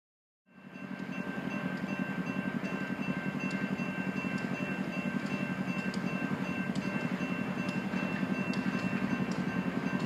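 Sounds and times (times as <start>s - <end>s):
diesel locomotive rumbling: 0.5s - 10.0s
faint high whining: 0.5s - 10.0s.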